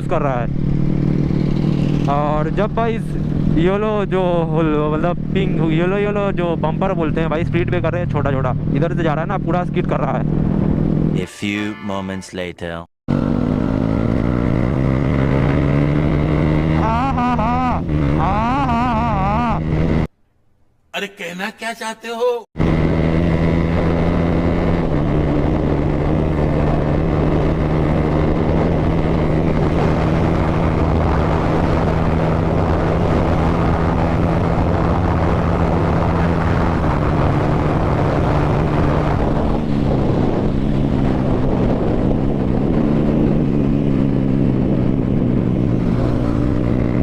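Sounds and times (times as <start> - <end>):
motorcycle engine running: 0.0 - 11.1, 13.1 - 20.1, 22.6 - 47.0.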